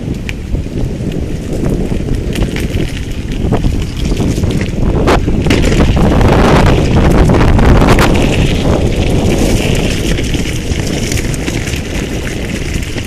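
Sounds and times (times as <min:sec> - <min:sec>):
bicycle rumbling and clattering: 0:00.0 - 0:13.0
wind buffeting microphone: 0:00.0 - 0:13.0.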